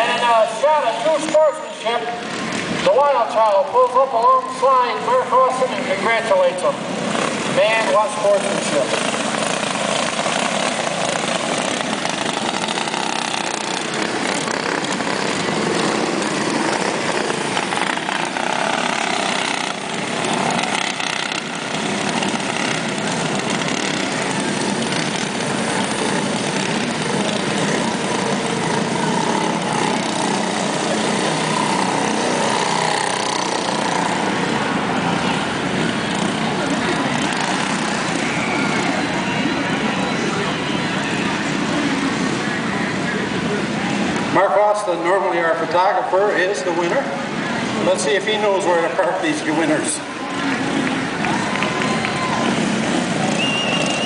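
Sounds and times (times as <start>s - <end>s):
go-kart engines buzzing: 0.0s - 54.0s.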